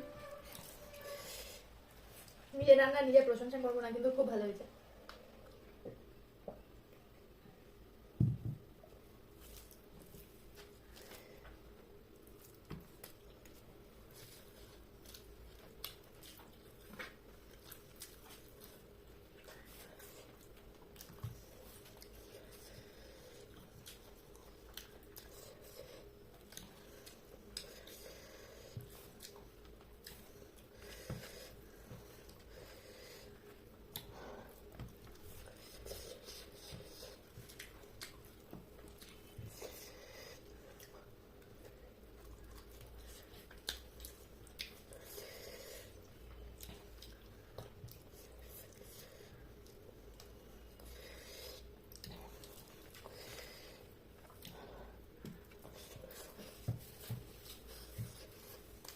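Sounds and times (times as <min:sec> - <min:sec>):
person chewing food: 0:09.3 - 0:58.9.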